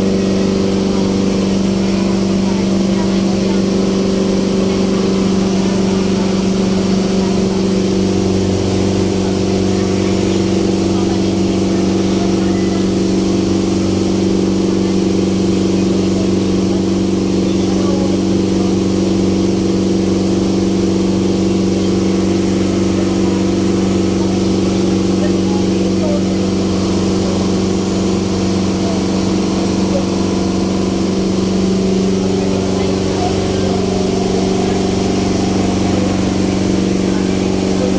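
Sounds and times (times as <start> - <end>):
ferry engine droning: 0.0 - 37.9.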